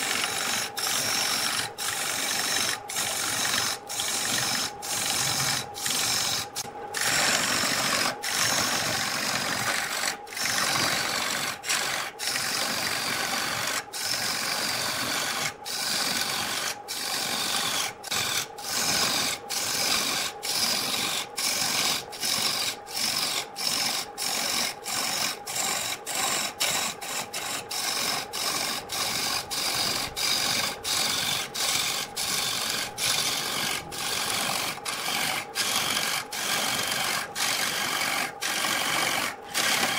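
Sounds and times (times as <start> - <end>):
lathe motor hum: 0.0 - 39.9
turning tool scraping wood: 0.0 - 39.9.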